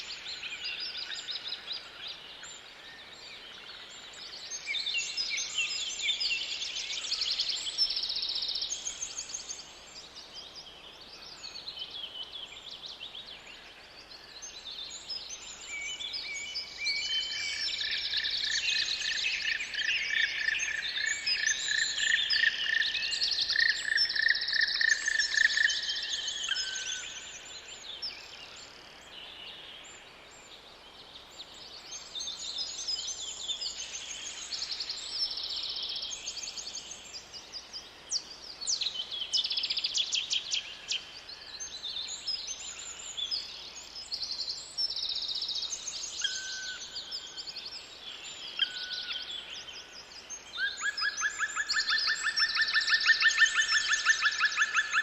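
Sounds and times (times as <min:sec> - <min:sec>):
faint steady hiss: 0:00.0 - 0:54.8
songbirds chirping: 0:00.0 - 0:55.0.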